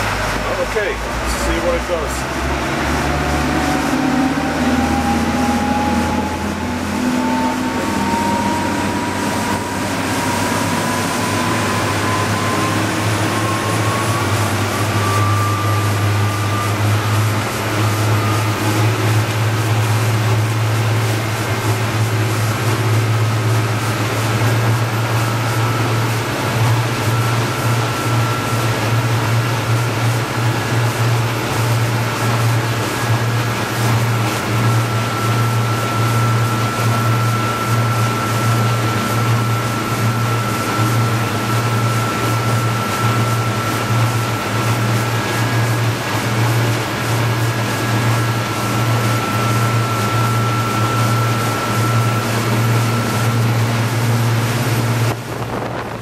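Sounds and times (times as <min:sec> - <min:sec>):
diesel boat engines running hard: 0:00.0 - 0:56.0
rushing water and wake: 0:00.0 - 0:56.0.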